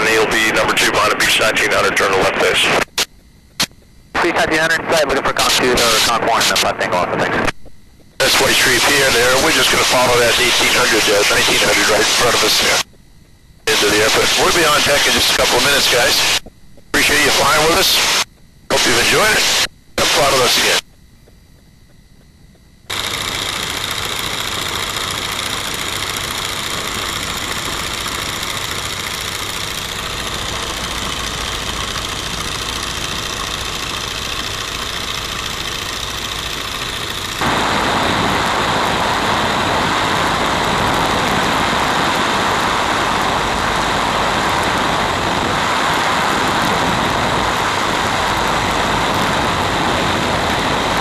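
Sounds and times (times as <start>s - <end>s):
biplane radial engine running: 0.0s - 51.0s.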